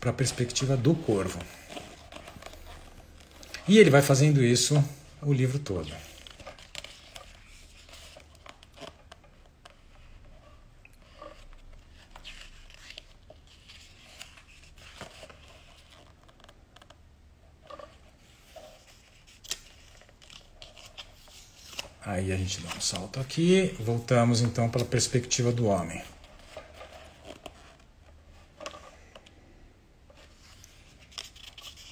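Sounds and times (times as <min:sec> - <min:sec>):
paper rustling: 0:00.0 - 0:17.0, 0:17.6 - 0:29.4, 0:30.1 - 0:31.9.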